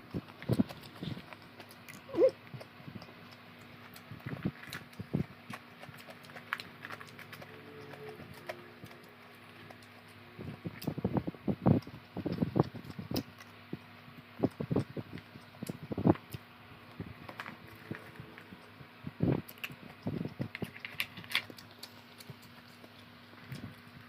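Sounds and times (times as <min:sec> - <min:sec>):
chewing and mouth noises: 0:00.0 - 0:24.0
electric fan humming: 0:00.0 - 0:24.0.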